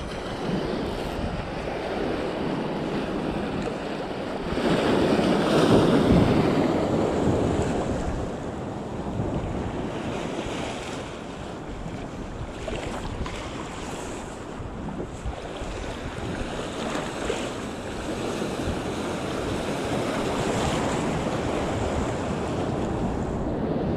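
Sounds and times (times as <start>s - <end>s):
sea waves breaking: 0.0s - 23.9s
wind buffeting microphone: 0.0s - 23.9s.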